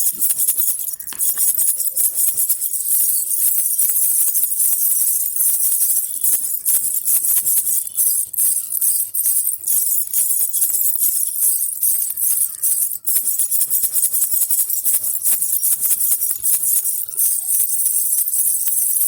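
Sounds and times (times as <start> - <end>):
baby rattle jingle bells: 0.0 - 19.0.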